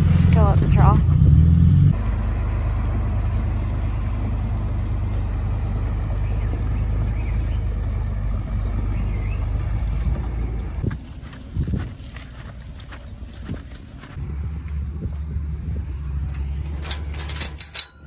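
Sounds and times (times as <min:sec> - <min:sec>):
tractor engine droning: 0:00.0 - 0:11.5, 0:12.1 - 0:18.0.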